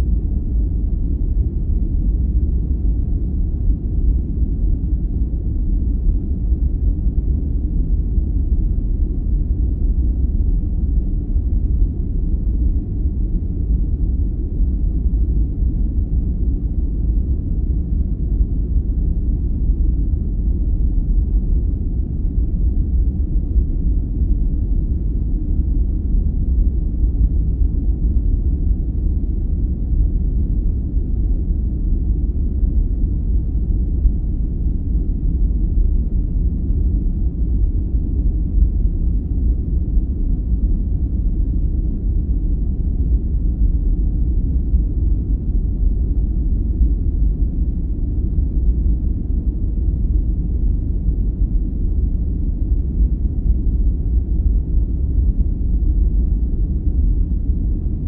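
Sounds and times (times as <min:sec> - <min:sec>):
deep muffled brown noise: 0:00.0 - 0:58.0.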